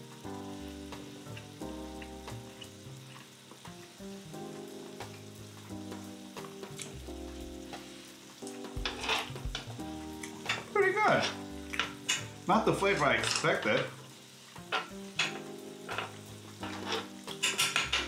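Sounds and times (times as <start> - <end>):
meat and mushrooms sizzling: 0.0 - 18.0
soft background music: 0.0 - 18.0.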